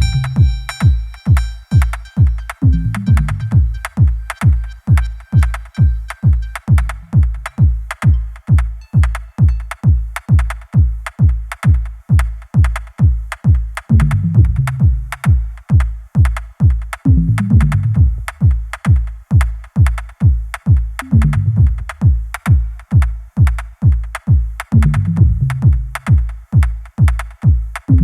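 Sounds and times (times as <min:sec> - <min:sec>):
electronic music with drum-machine beat: 0:00.0 - 0:28.0.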